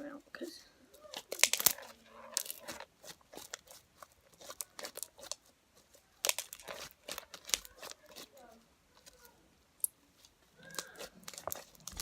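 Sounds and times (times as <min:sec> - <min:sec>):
slime with beads crackling: 0:01.0 - 0:09.4, 0:10.1 - 0:12.0.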